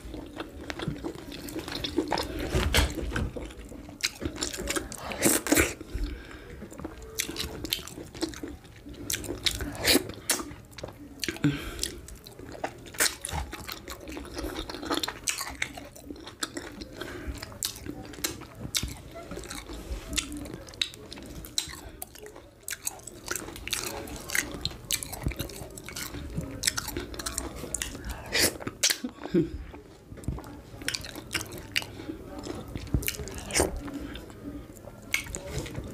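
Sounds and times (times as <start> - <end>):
person chewing food: 0.0 - 35.9.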